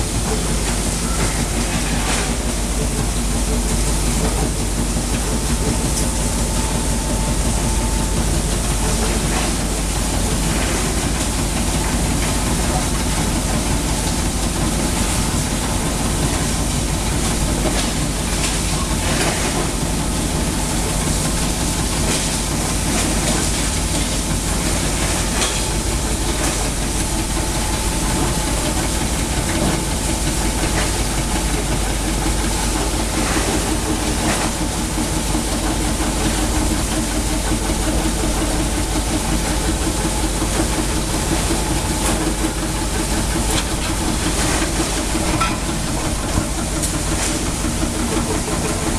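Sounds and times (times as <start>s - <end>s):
mixing machine running: 0.0s - 48.9s.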